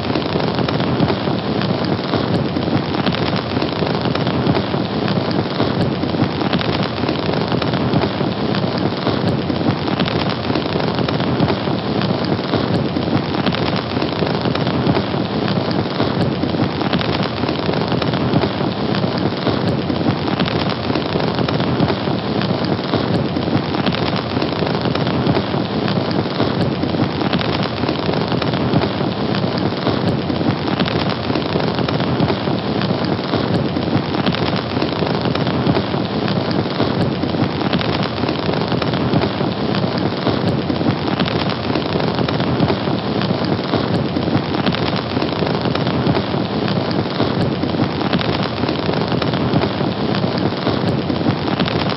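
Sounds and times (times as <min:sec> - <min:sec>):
fire crackling: 0:00.0 - 0:51.9.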